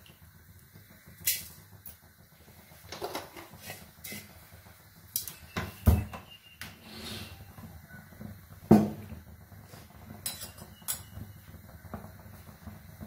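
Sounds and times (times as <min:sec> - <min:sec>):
seeds crackling in hot oil: 0:00.0 - 0:13.0.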